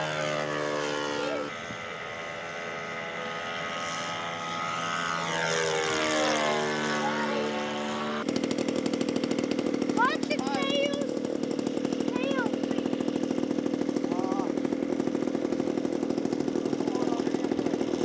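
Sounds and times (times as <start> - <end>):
model airplane engine flying past: 0.0 - 18.0
rapidly pulsing engine: 0.0 - 18.0.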